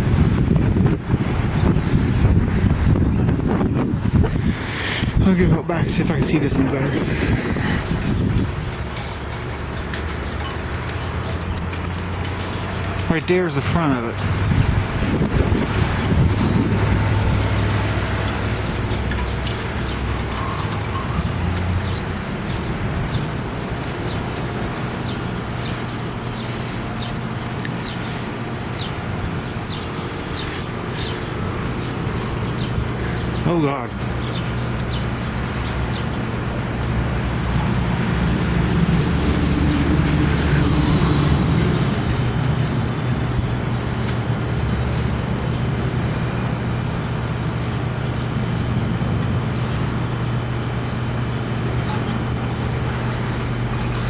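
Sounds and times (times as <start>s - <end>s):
strong wind buffeting microphone: 0.0s - 52.7s
birds chirping: 2.9s - 54.0s.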